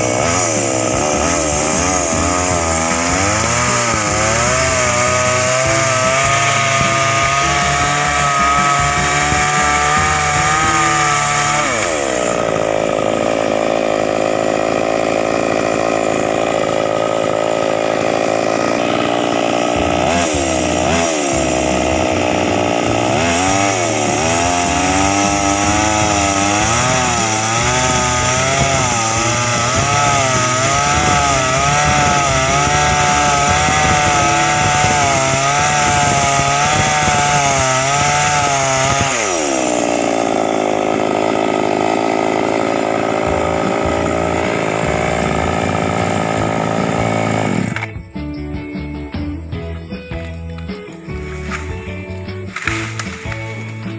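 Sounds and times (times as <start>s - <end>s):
chainsaw cutting wood: 0.0s - 48.1s, 50.2s - 53.9s.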